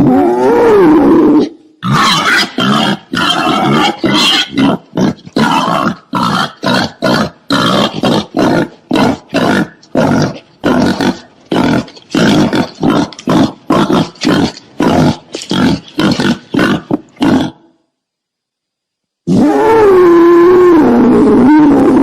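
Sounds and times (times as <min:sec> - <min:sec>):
wild boar grunting and squealing: 0:00.0 - 0:17.7.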